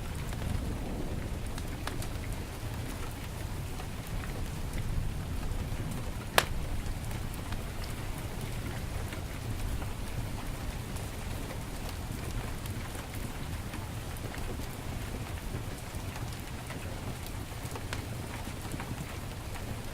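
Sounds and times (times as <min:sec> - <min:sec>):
heavy rain falling: 0:00.0 - 0:19.9
wood fire crackling: 0:00.0 - 0:19.9.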